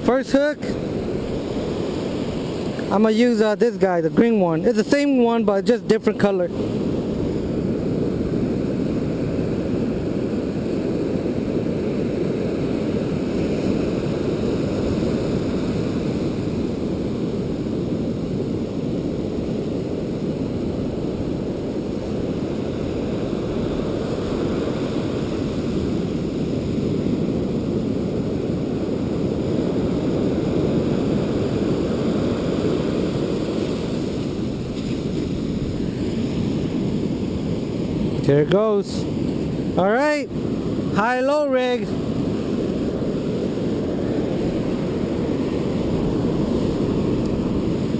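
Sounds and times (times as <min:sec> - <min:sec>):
ocean surf: 0:00.0 - 0:47.9
strong wind on microphone: 0:00.0 - 0:47.9.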